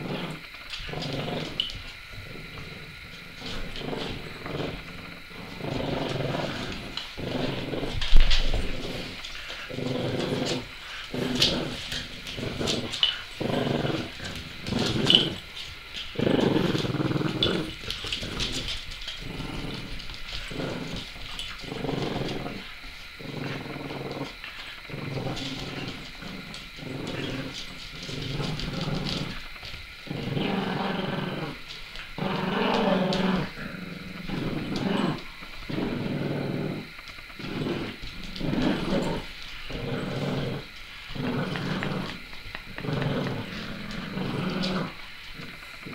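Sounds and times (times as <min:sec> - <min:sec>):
dogs growling in play: 0:00.0 - 0:45.9.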